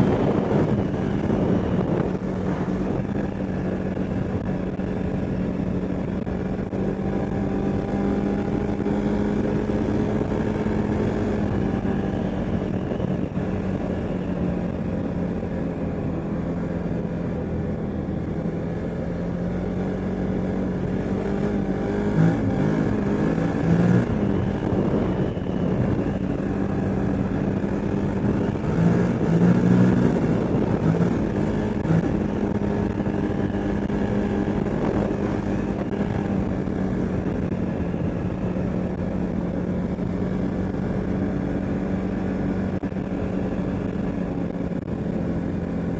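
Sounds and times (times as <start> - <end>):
atv engine running: 0.0 - 45.9.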